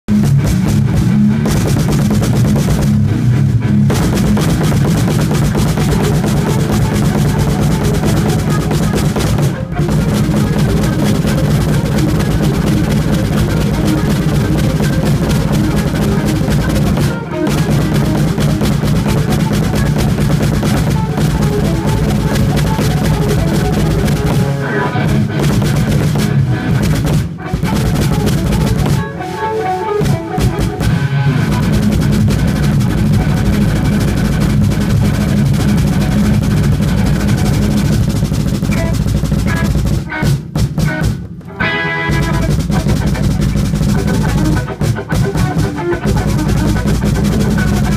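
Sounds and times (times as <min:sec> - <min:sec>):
bass drum double pedal kicks: 0:00.0 - 0:29.2, 0:30.0 - 0:47.9.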